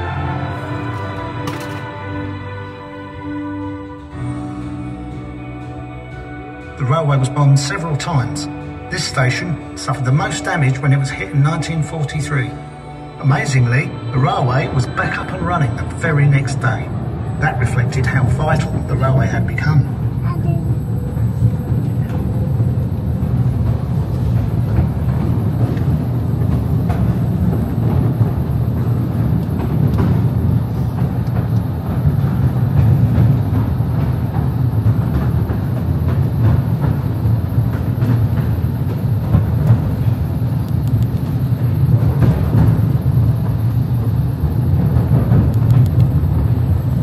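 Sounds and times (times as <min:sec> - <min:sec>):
train rumbling in tunnel: 0:00.0 - 0:47.0.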